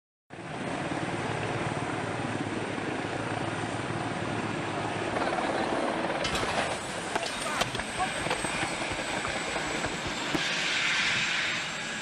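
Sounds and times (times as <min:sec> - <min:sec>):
helicopter rotor and engine: 0:00.3 - 0:12.0.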